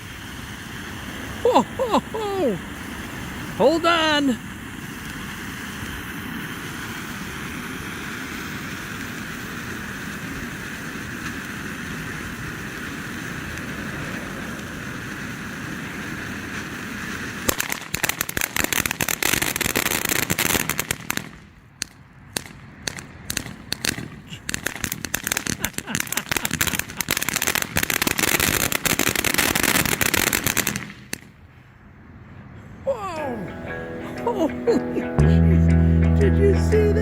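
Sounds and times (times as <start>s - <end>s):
firework fountain hissing: 0.0s - 21.7s, 22.4s - 31.4s
firework crackling: 0.0s - 31.5s.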